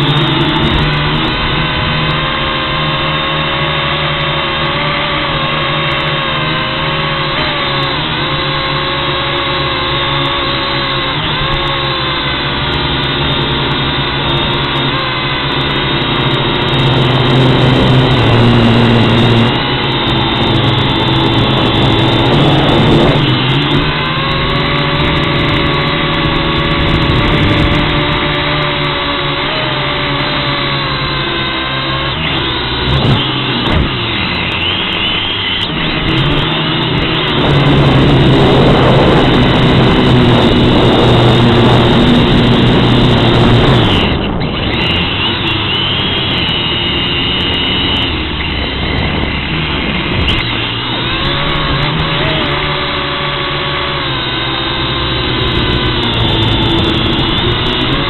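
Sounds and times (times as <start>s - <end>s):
toy drone motors whining: 0.0s - 58.0s.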